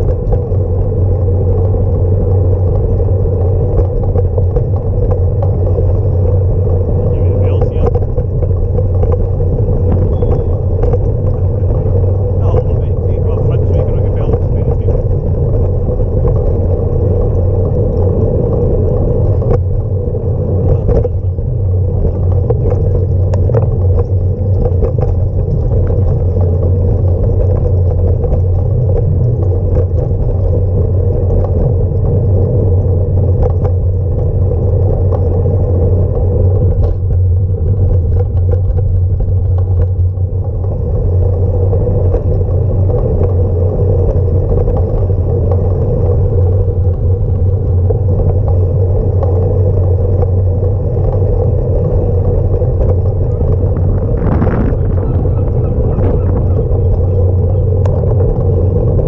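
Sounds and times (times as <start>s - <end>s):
bicycle rolling over paving stones: 0.0s - 59.0s
bike clicks and rattles: 0.0s - 59.0s.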